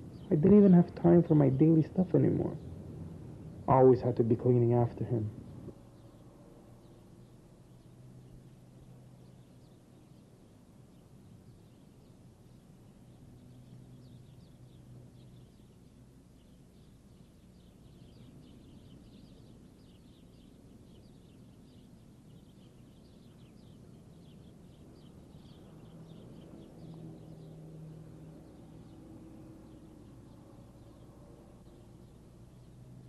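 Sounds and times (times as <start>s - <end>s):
faint bird chirping: 0.0s - 33.0s
low steady hum: 0.0s - 33.0s.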